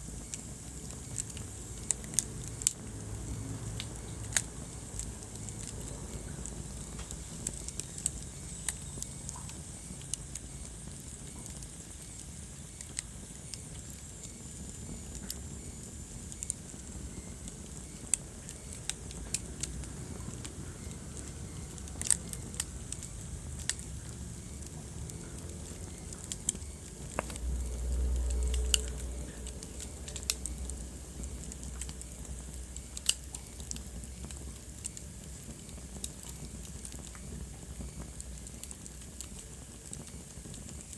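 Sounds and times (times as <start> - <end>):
fire pops and snaps: 0.0 - 40.9
low rumble of flames: 0.0 - 40.9.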